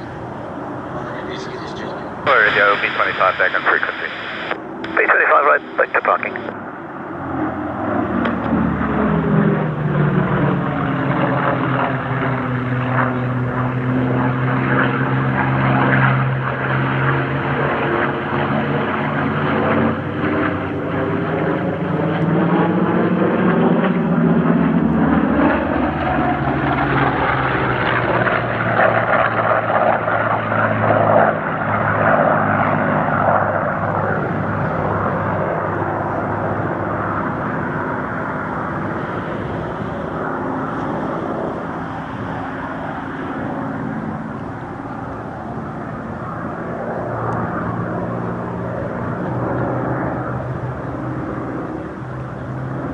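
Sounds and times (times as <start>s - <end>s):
propeller planes flying past: 0.0s - 52.9s.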